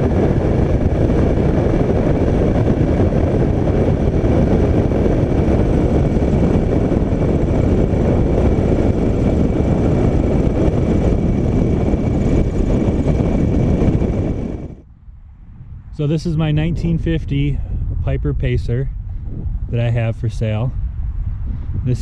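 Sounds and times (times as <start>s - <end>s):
plane engine and propeller: 0.0s - 22.0s
wind rush: 0.0s - 22.0s.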